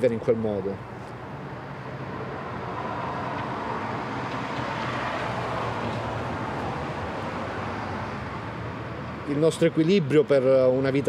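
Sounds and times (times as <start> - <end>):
steady traffic noise: 0.0 - 11.0.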